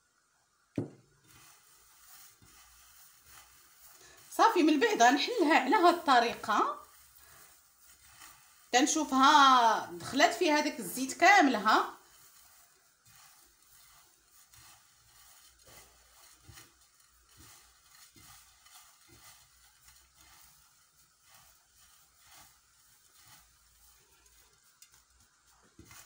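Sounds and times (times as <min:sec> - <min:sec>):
soft rustling of dry noodles: 0:00.0 - 0:26.0.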